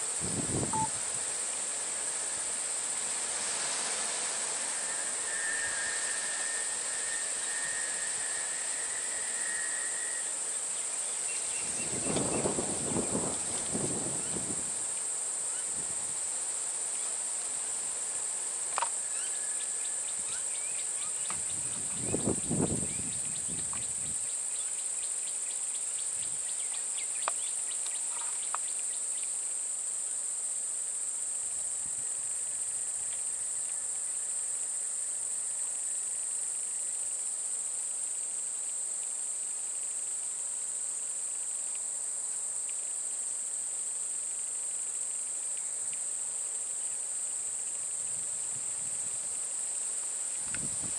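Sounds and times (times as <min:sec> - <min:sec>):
insect chorus drone: 0:00.0 - 0:50.9.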